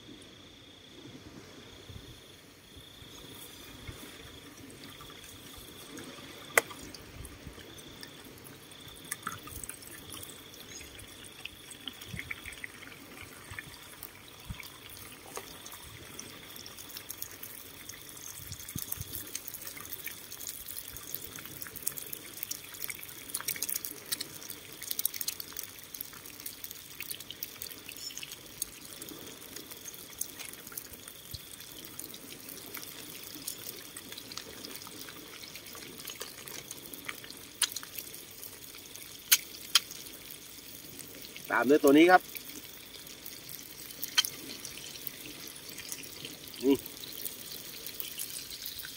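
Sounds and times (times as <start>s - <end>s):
eggs sizzling in a pan: 2.7s - 48.9s.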